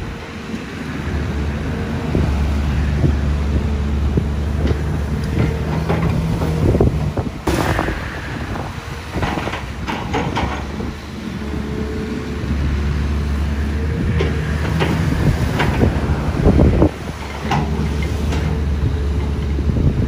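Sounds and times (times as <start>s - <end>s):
excavator diesel engine running: 0.0s - 20.0s
excavator bucket clanking: 1.7s - 20.0s.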